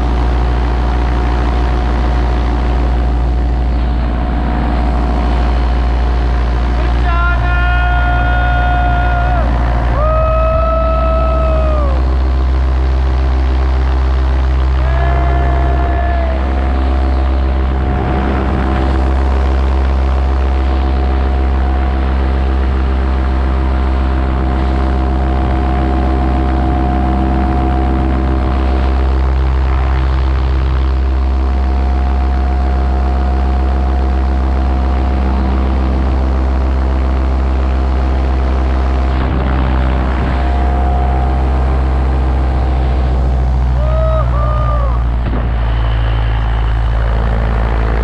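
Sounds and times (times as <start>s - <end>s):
paramotor engine droning: 0.0s - 48.0s.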